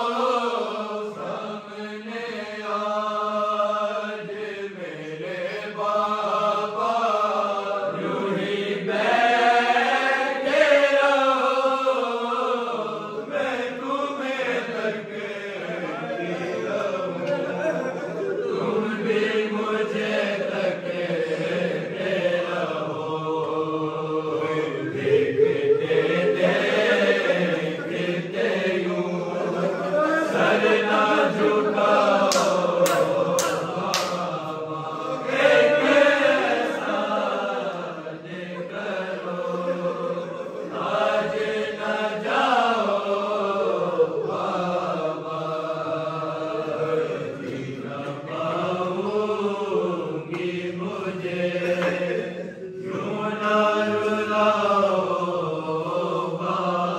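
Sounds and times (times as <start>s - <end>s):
men chanting a lament: 0.0s - 56.9s.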